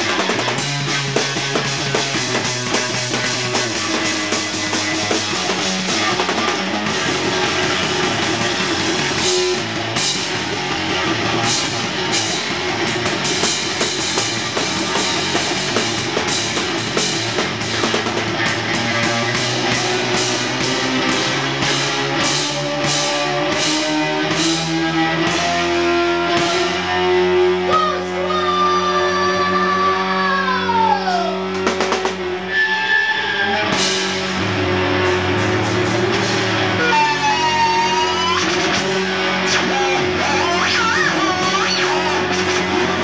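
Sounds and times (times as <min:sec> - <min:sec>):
drum kit: 0:00.0 - 0:43.0
electric guitar: 0:00.0 - 0:43.0.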